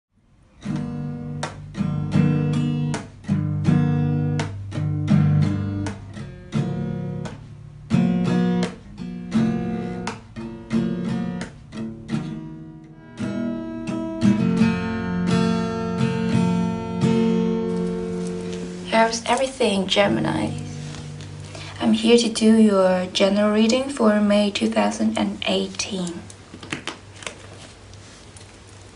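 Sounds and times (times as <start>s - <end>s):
acoustic guitar strumming chords: 0.6s - 26.0s.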